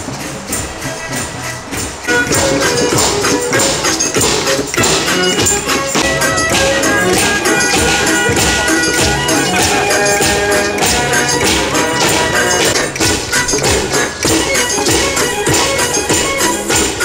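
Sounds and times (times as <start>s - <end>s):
hand drum beat: 0.0s - 17.0s
snare drum beat: 0.0s - 17.0s
sustained melody: 0.0s - 17.0s
tambourine jingling: 0.0s - 17.0s.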